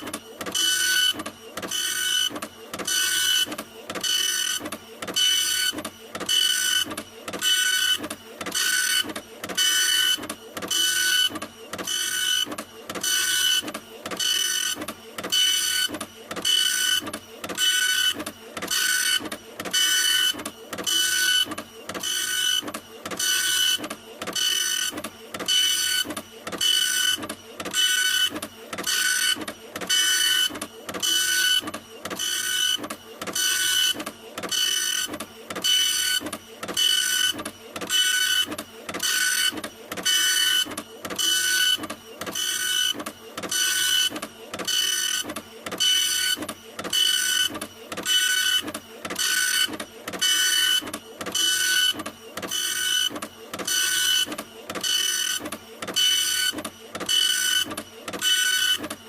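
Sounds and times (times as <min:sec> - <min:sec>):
printer running with high whine: 0:00.0 - 0:59.0.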